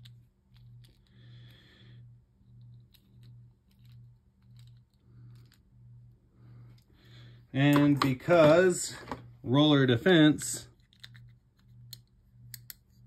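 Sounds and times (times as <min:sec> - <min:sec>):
pulsing low hum: 0:00.0 - 0:13.0.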